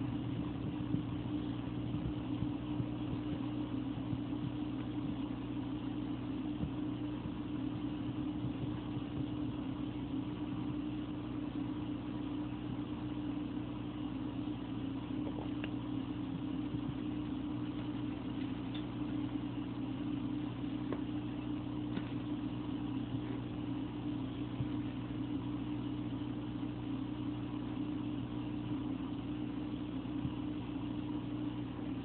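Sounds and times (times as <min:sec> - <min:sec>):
aquarium pump humming: 0:00.0 - 0:32.0.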